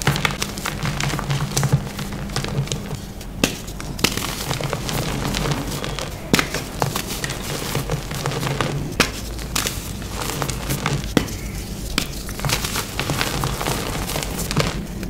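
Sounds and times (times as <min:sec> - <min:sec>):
chalk clumps crunching in hand: 0:00.0 - 0:15.0.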